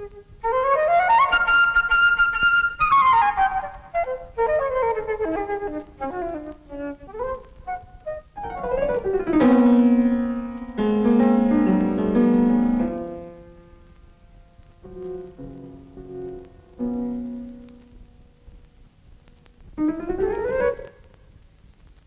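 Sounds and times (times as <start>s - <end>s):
piano music: 0.0s - 18.3s, 19.8s - 21.1s.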